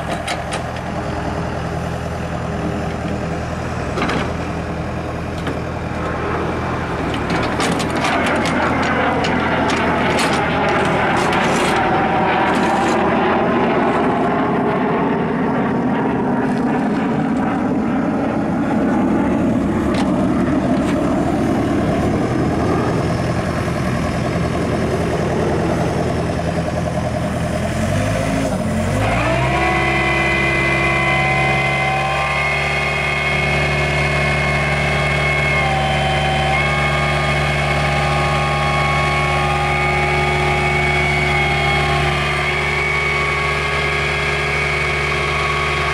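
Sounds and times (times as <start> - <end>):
excavator diesel engine and hydraulics: 0.0 - 45.9.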